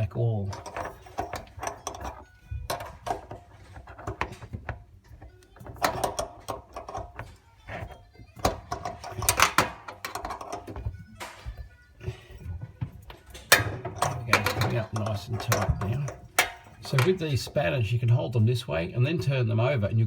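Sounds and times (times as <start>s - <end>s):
metal spanner clicking on fittings: 0.5s - 12.4s, 13.1s - 17.6s.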